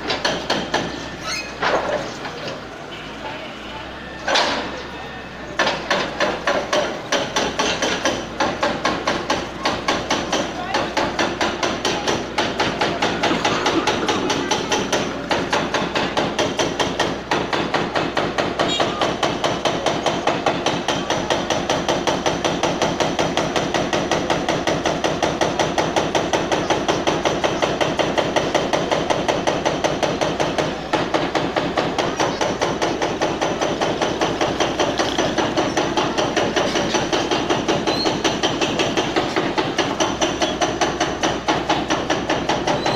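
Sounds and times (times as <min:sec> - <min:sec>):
hydraulic breaker hammering wall: 0:00.0 - 0:01.0, 0:05.6 - 0:42.9.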